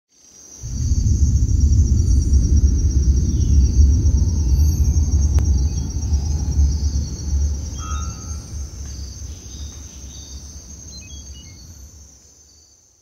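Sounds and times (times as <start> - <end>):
insects trilling: 0.1 - 13.0
fire cracking: 0.6 - 12.1
fire rumbling: 0.6 - 12.2.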